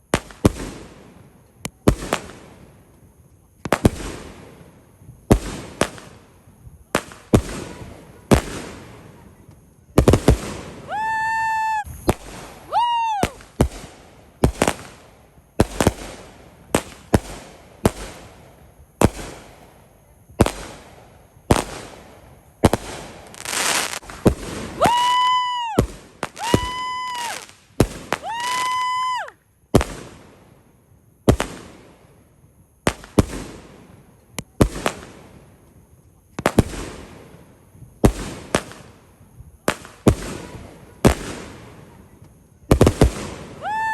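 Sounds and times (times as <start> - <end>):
shrill whistling fireworks: 0.0 - 35.7, 36.4 - 43.9
fireworks and firecrackers banging: 0.0 - 43.9.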